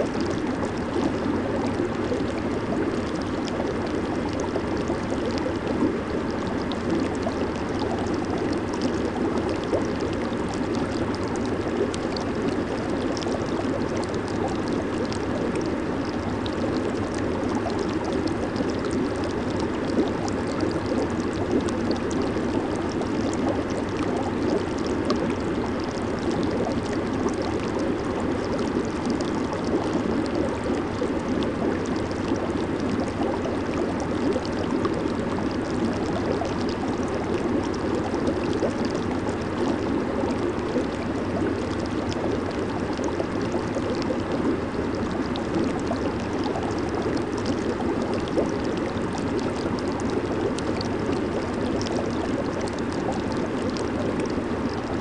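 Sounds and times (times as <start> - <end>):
hot tub jets bubbling water: 0.0 - 55.0.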